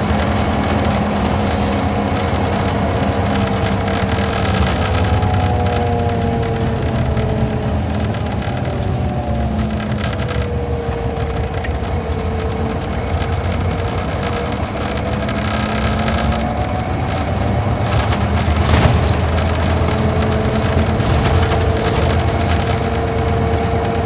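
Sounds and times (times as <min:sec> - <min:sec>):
bus diesel engine rumble: 0:00.0 - 0:24.0
drivetrain whine: 0:00.0 - 0:24.0
road noise: 0:00.0 - 0:24.0.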